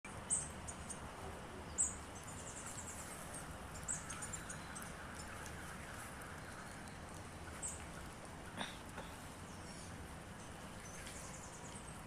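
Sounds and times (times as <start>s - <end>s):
faint steady hiss: 0.1s - 12.0s.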